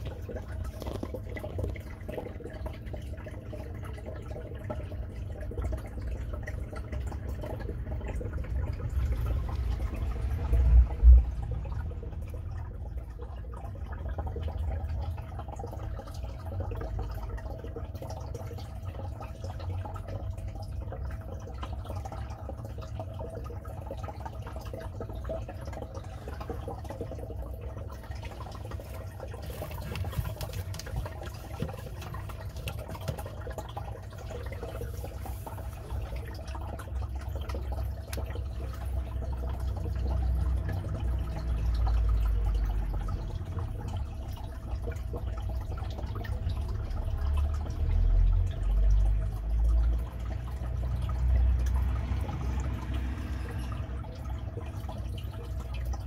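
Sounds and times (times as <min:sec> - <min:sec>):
faint steady hum: 0:00.0 - 0:56.0
water trickling and splashing: 0:00.0 - 0:56.0.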